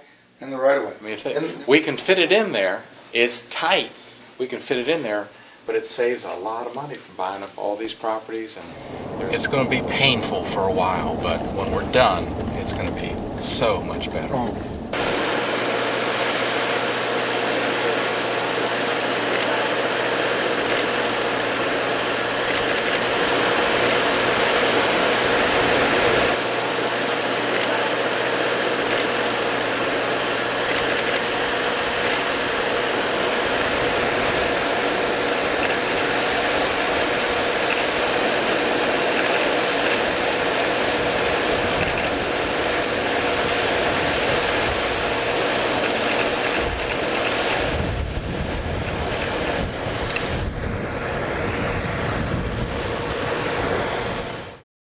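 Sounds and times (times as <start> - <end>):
road traffic rumble: 8.6 - 54.2.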